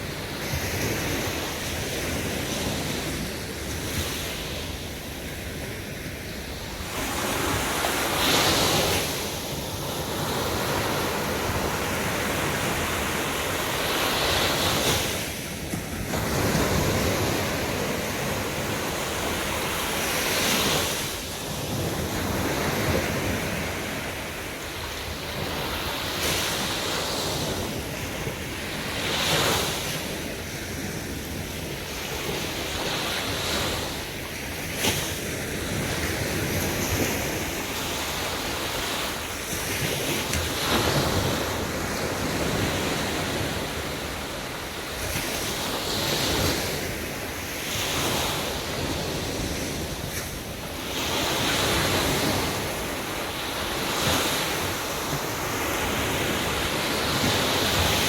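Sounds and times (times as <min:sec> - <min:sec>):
sea waves breaking on beach: 0:00.0 - 0:58.0.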